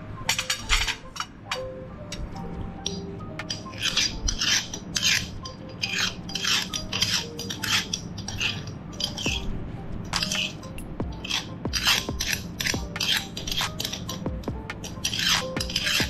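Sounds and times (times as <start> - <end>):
meat grinder metallic rasping: 2.8 - 16.0.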